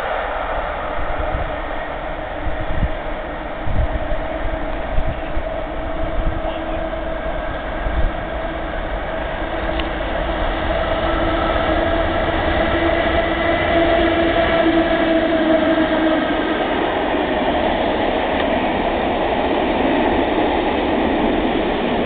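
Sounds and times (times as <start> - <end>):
electric locomotive humming: 0.0 - 22.0
train rumbling: 0.0 - 22.0.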